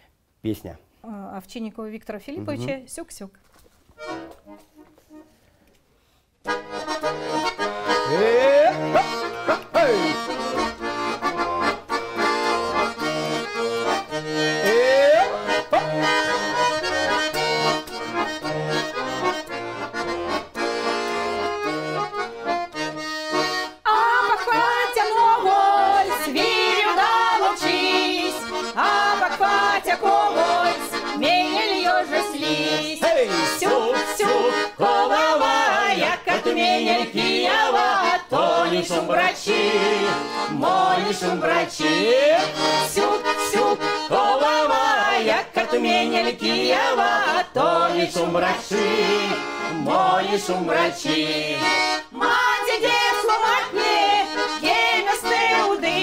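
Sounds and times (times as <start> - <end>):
button accordion playing folk tune: 4.0 - 5.5, 6.4 - 56.0.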